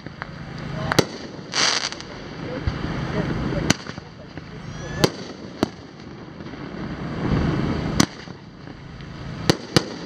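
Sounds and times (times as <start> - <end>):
fireworks bangs: 0.0 - 10.0
low rumbling: 0.0 - 10.0.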